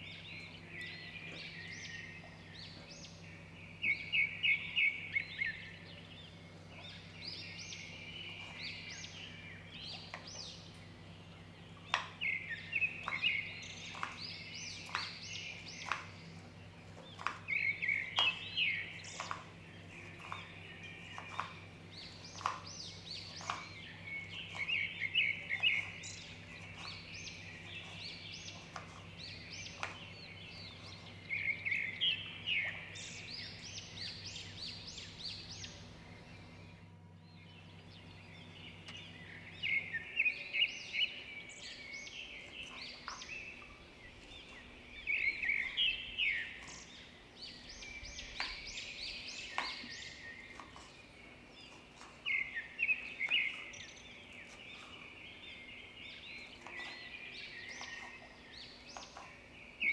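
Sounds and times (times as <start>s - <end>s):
birds chirping: 0.0s - 59.9s
low steady hum: 0.0s - 59.9s.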